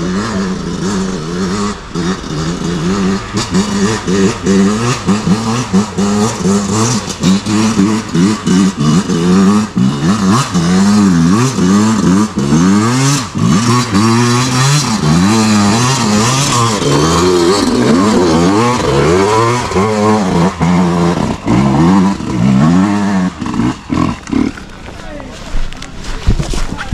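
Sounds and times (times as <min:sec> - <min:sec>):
dirt bike engine revving: 0:00.0 - 0:25.3.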